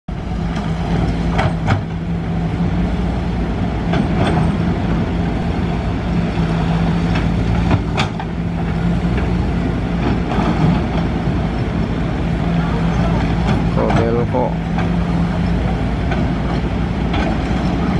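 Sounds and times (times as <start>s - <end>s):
excavator diesel engine running: 0.1s - 17.9s.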